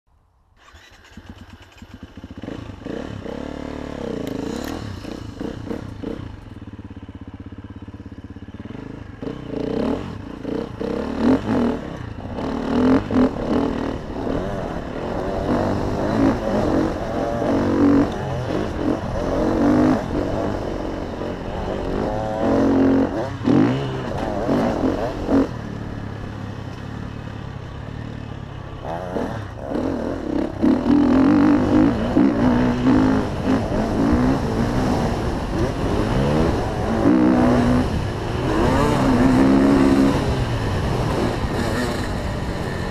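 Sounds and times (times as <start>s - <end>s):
dirt bike engine revving: 0.6s - 42.9s.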